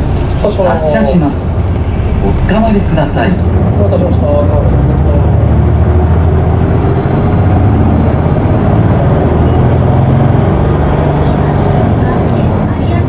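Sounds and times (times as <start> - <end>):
bus diesel engine accelerating: 0.0 - 13.0.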